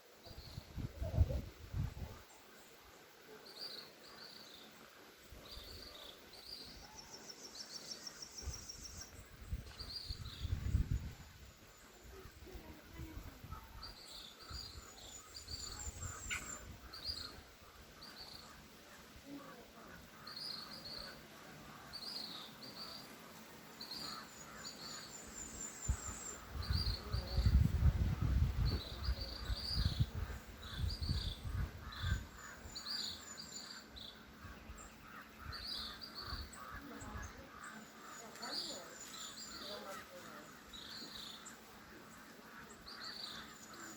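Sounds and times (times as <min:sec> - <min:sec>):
birds chirping: 0:00.3 - 0:43.9.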